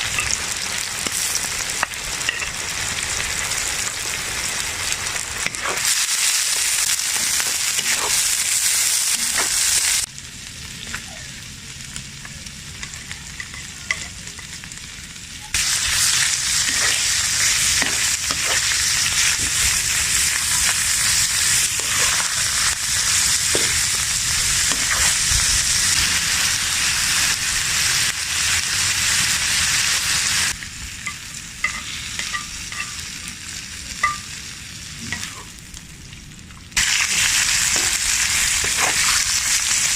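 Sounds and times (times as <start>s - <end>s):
food sizzling in hot fat: 0.0s - 39.9s.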